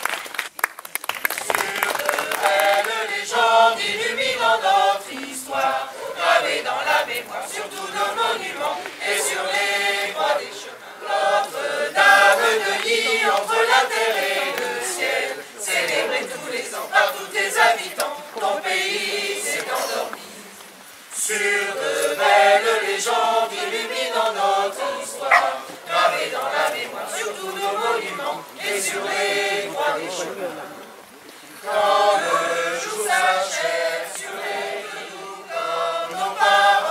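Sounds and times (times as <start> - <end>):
choir singing: 1.5 - 30.6, 31.6 - 36.9.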